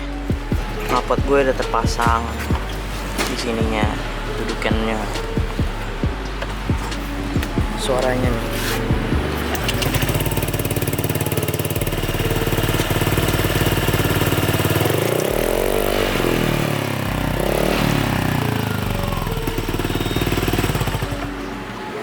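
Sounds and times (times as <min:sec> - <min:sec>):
scooter engine idling and revving: 0:00.0 - 0:22.0.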